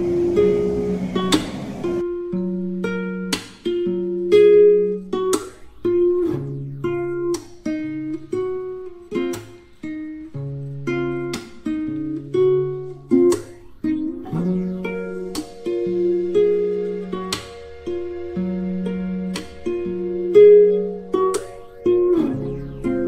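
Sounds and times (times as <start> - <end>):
plucked string instrument melody: 0.0 - 23.0.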